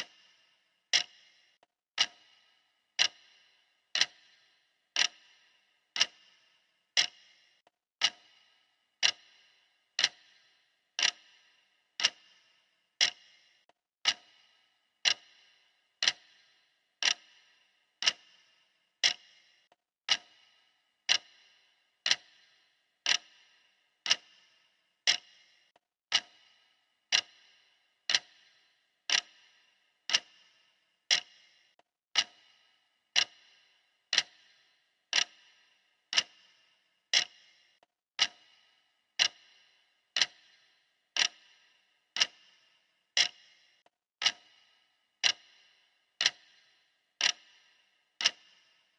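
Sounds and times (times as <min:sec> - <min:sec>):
clock ticking: 0:00.0 - 0:48.9.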